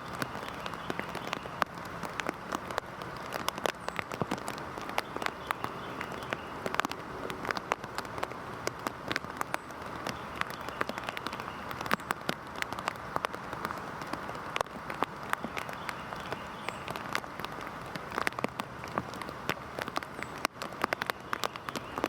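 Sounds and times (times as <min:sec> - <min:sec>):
heavy rain hissing: 0:00.0 - 0:22.0
raindrops striking close by: 0:00.0 - 0:22.0.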